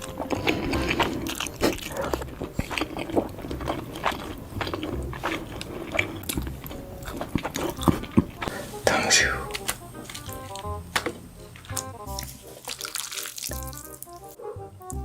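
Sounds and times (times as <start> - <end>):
person chewing noodles: 0.0 - 15.0.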